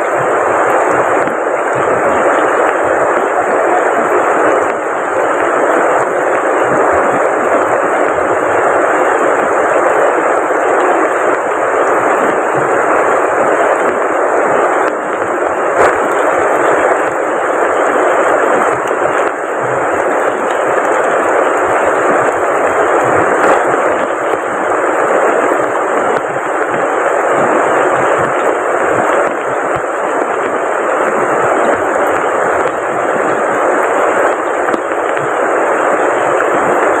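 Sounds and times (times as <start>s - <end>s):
heavy rain: 0.0s - 37.0s
rushing river water: 0.0s - 37.0s.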